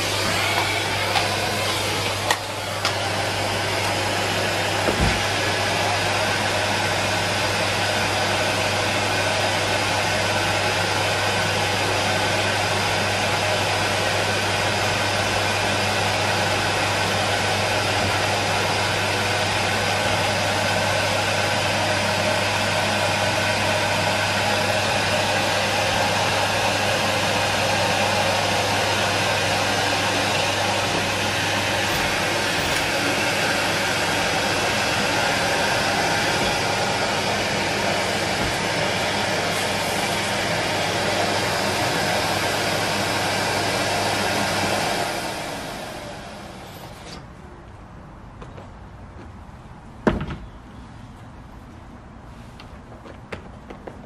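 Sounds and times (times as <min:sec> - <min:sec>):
vacuum cleaner running: 0:00.0 - 0:47.2.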